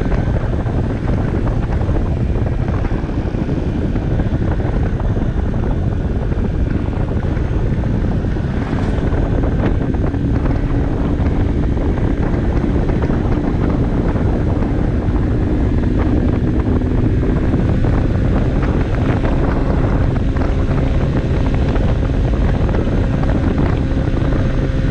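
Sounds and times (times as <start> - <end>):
moped engine humming: 0.0 - 24.9
wind rush on microphone: 0.0 - 24.9.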